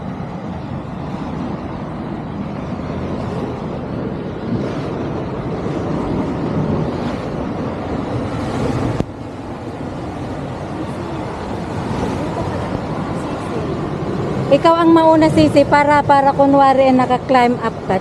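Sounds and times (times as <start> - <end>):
sea waves breaking on rocks: 0.0 - 15.8
wind buffeting microphone: 0.0 - 18.0.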